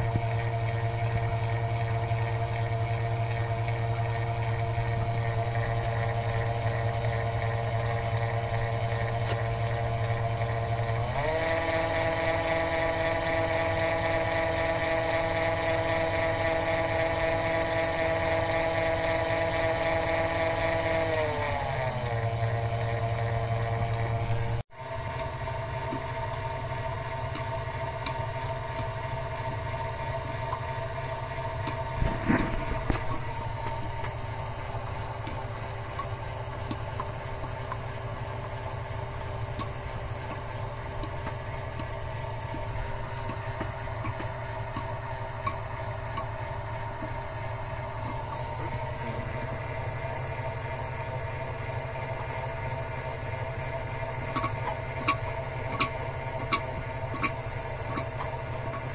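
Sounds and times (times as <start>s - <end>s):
oil pump whirring: 0.0s - 58.9s.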